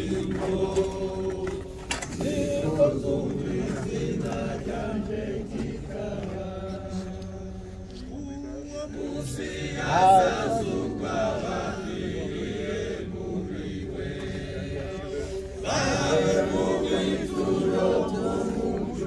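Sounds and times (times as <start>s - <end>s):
group singing without instruments: 0.0s - 19.0s.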